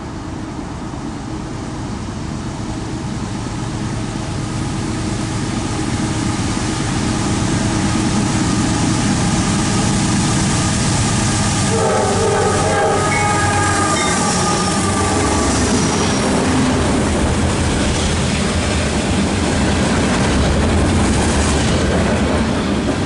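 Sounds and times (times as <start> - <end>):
diesel locomotive engines droning: 0.0 - 23.0.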